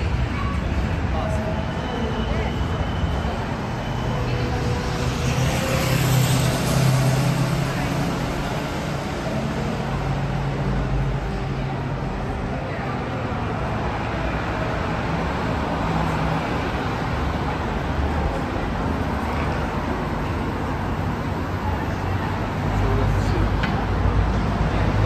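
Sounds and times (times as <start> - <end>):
crowd hubbub: 0.0 - 25.0.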